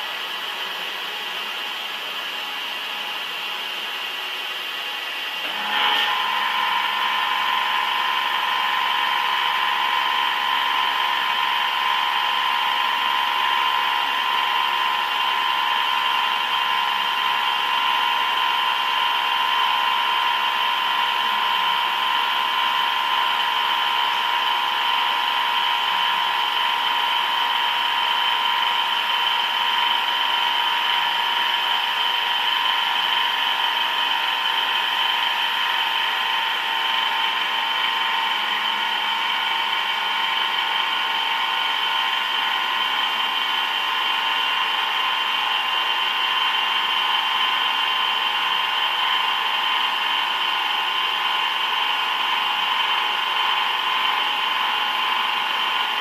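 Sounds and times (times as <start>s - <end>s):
machine tool whine: 0.0s - 56.0s.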